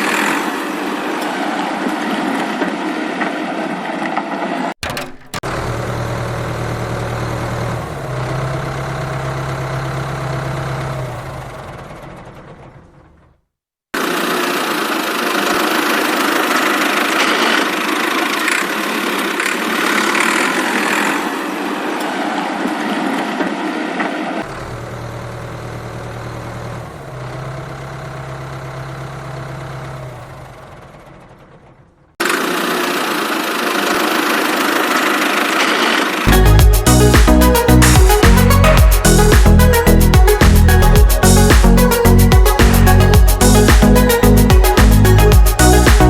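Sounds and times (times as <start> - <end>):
small motor running: 0.0 - 2.6, 5.4 - 13.1, 14.0 - 46.0.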